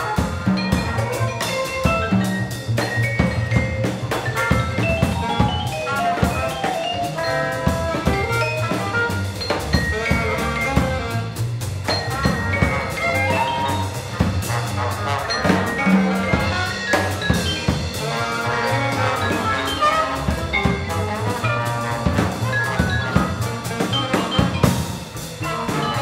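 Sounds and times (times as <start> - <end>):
drum kit with cymbal hits: 0.0 - 26.0
trombone: 0.0 - 26.0
trumpet: 0.0 - 26.0
walking double bass: 0.0 - 26.0
alto saxophone: 4.1 - 26.0.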